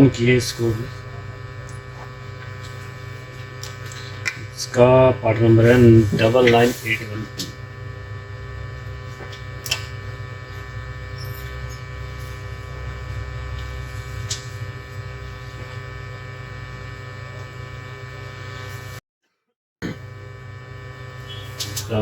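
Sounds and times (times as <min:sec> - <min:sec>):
electrical mains hum: 0:00.0 - 0:19.0, 0:19.8 - 0:22.0.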